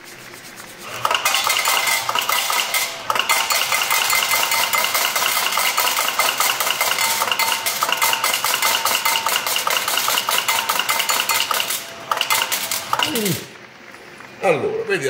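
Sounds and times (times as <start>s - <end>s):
slot machine payout tones and clinks: 1.0s - 13.3s.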